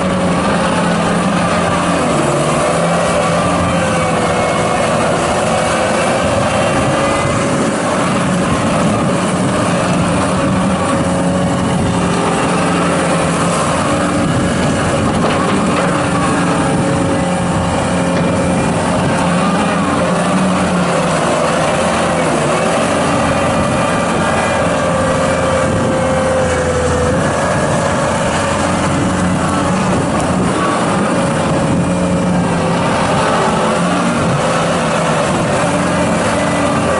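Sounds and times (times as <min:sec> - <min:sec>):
skid steer loader engine running: 0:00.0 - 0:36.9.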